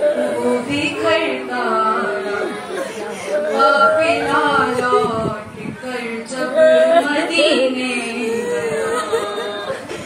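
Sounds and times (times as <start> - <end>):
woman chanting a lament: 0.0 - 9.8.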